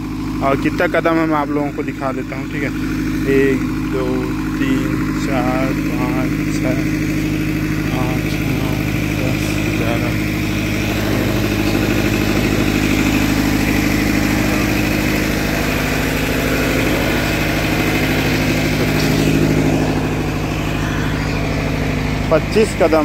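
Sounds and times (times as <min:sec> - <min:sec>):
diesel generator running: 0:00.0 - 0:23.0.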